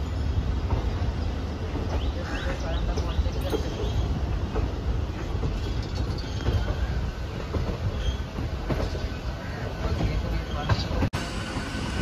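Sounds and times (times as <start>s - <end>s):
train wheels clattering: 0.0s - 12.0s
train wheels rumbling on track: 0.0s - 12.0s.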